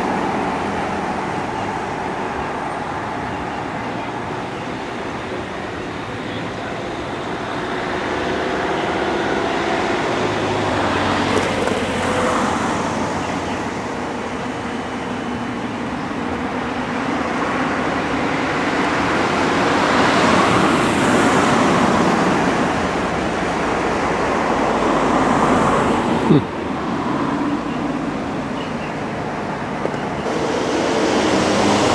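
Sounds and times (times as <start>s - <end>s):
road traffic passing: 0.0s - 31.9s.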